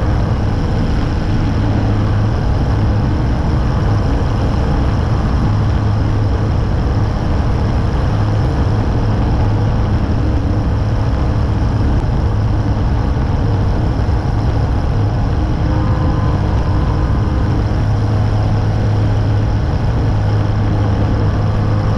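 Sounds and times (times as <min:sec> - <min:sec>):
aircraft engine and propeller drone: 0:00.0 - 0:21.9.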